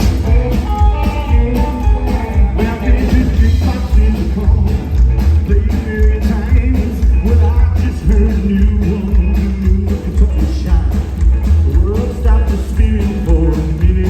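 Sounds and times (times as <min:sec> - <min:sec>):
rockabilly band playing live: 0:00.0 - 0:14.0
twangy electric guitar: 0:00.0 - 0:14.0.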